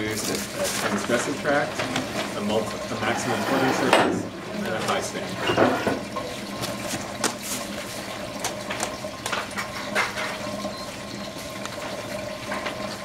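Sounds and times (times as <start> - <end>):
water running and trickling: 0.0 - 13.0.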